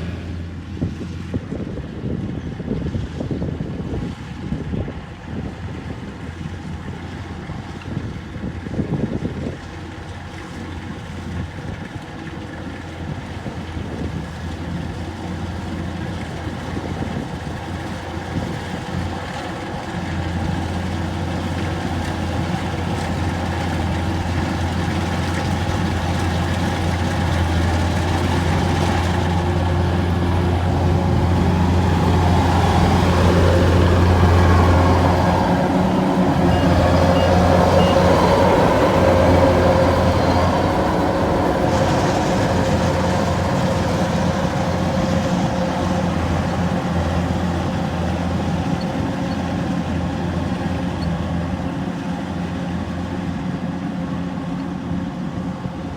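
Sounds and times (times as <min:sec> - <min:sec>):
harvester engine running: 0:09.3 - 0:55.9.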